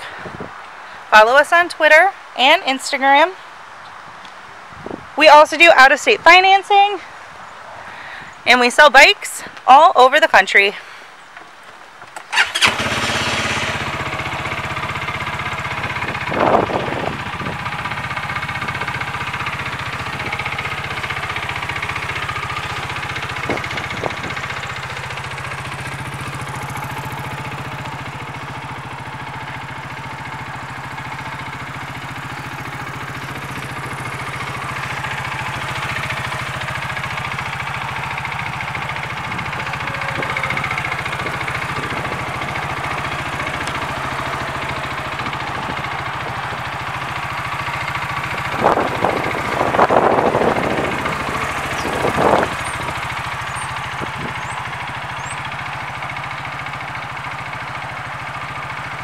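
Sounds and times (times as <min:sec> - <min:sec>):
vehicle engine idling: 0:00.0 - 0:02.4, 0:10.7 - 0:59.0.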